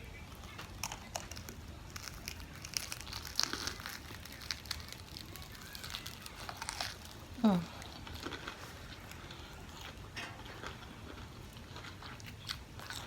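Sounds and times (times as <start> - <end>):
person chewing with wet crunches: 0.0 - 13.0.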